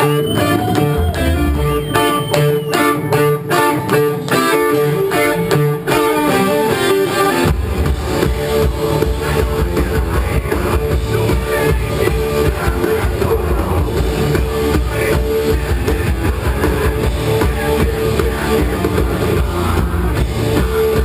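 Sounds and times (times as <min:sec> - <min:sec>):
heavy rock band playing live: 0:00.0 - 0:21.0.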